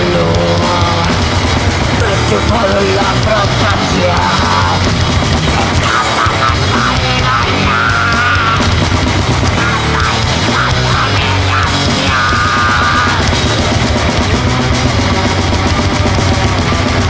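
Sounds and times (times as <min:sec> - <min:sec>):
loud distorted noise music: 0:00.0 - 0:17.0.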